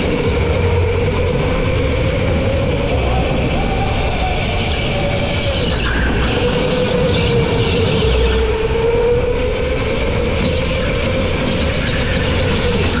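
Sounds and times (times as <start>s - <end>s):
low rumble: 0.0s - 12.9s
go-kart motor whine: 0.0s - 13.0s.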